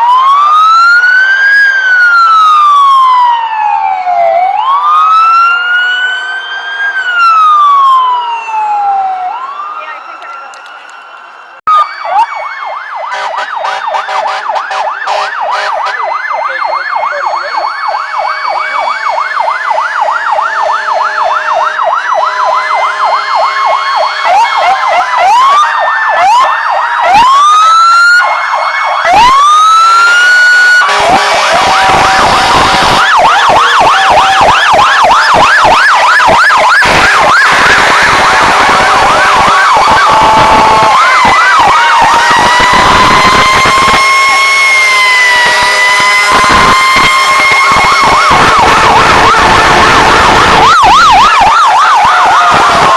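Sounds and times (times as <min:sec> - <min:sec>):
fire truck sirens wailing: 0:00.0 - 0:52.9.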